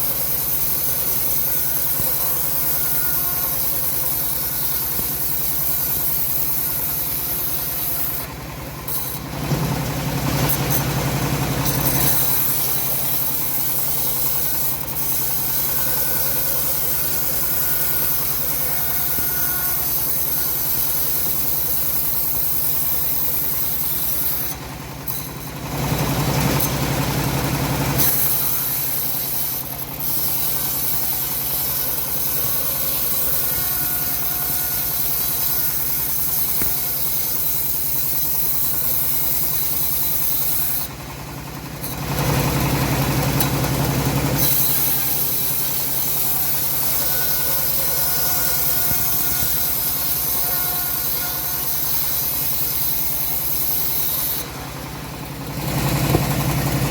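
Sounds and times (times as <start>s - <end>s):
bandsaw sawing wood: 0.0s - 56.9s.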